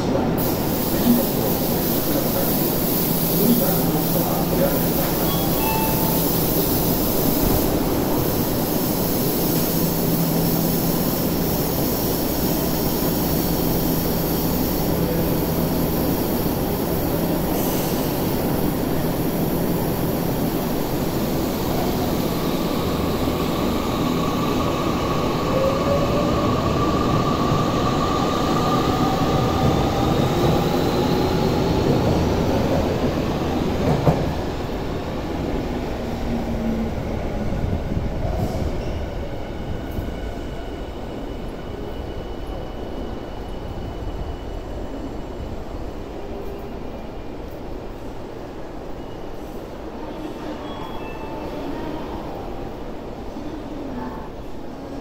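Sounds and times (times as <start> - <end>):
train rumble and rail noise: 0.0 - 55.0.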